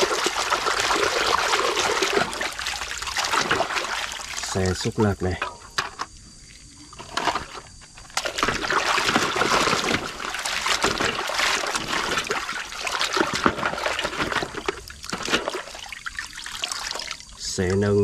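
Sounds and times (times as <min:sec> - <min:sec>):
water sloshing in a basin: 0:00.0 - 0:18.0.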